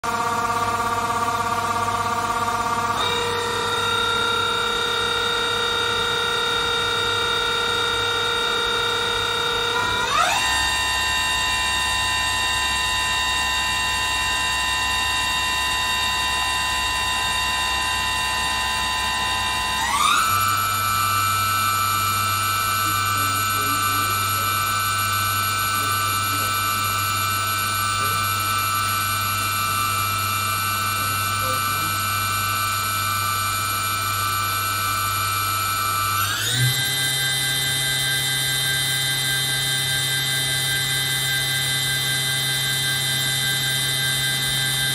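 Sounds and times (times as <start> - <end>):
machine spindle whine: 0.0 - 44.9.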